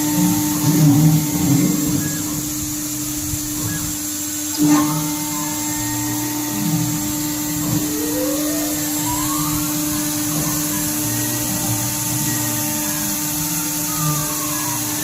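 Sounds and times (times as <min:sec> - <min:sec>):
hiss of metal cutting: 0:00.0 - 0:15.0
router spindle whine: 0:00.0 - 0:15.0.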